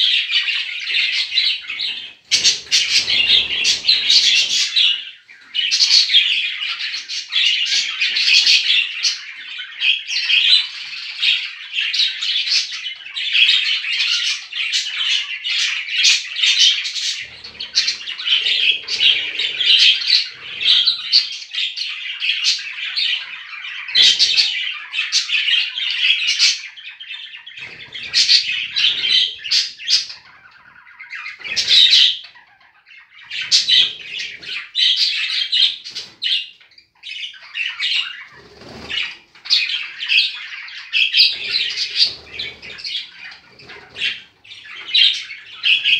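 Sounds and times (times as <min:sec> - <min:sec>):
budgerigars chattering: 0:00.0 - 0:45.9.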